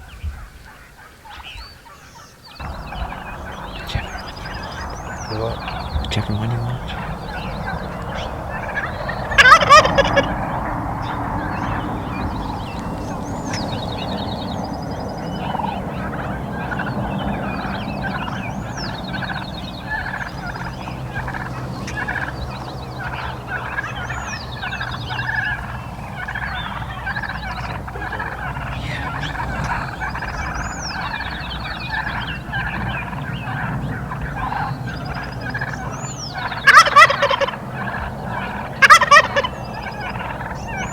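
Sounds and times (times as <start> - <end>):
birds calling: 0.0 - 40.9
songbird high song: 0.0 - 40.9
turkey gobbling: 0.0 - 40.9.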